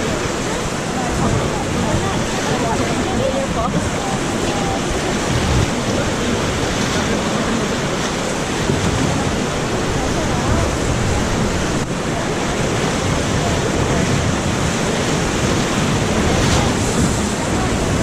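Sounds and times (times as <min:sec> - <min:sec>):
whitewater river rushing: 0:00.0 - 0:18.0
wind noise on microphone: 0:00.0 - 0:18.0.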